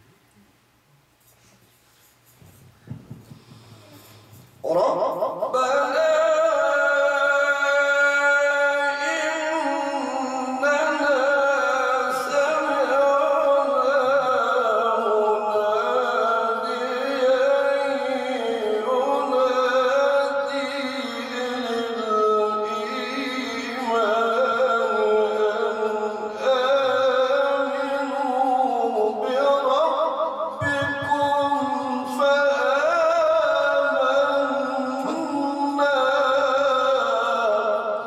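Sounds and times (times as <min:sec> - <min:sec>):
man reciting melodically: 0:04.6 - 0:38.0.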